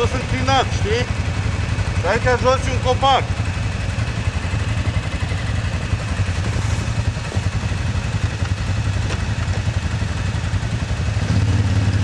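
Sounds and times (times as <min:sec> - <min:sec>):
atv engine running: 0:00.0 - 0:12.0
engine clatter: 0:00.0 - 0:12.0.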